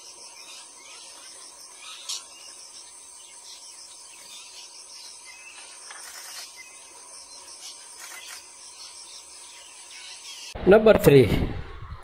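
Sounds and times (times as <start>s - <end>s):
insects chirring: 0.0s - 10.6s.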